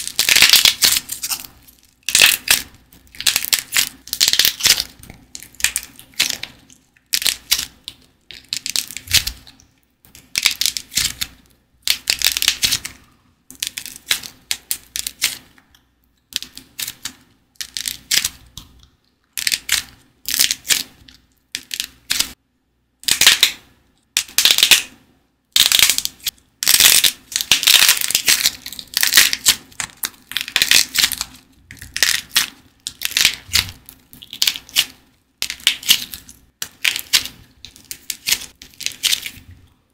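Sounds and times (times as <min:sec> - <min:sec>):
dry clay crackling when crushed: 0:00.0 - 0:22.4, 0:23.0 - 0:39.9.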